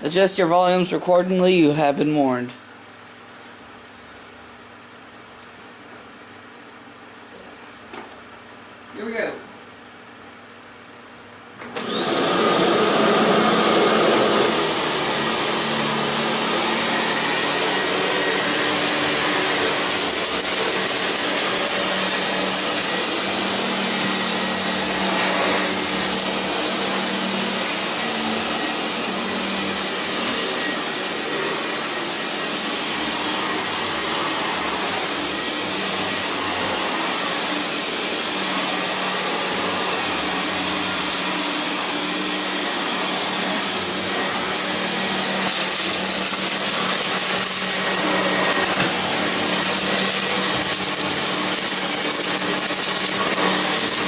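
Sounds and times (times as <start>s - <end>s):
vacuum cleaner running: 0.0s - 2.3s, 11.6s - 54.0s.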